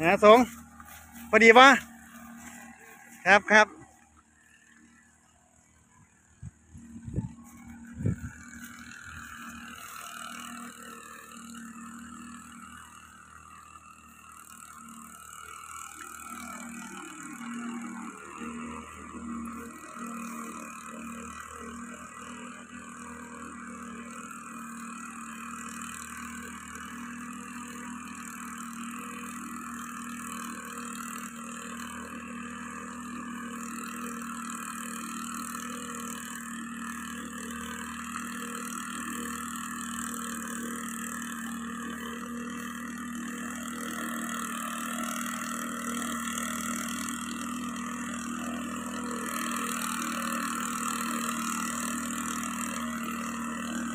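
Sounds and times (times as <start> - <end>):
mist blower engine running: 0.0 - 53.9.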